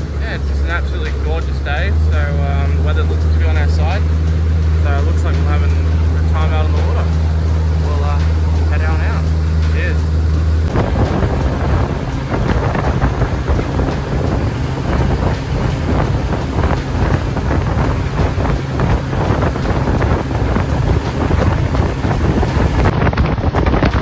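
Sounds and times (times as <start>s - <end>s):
water rushing past boat: 0.0s - 24.0s
wind buffeting microphone: 0.0s - 24.0s.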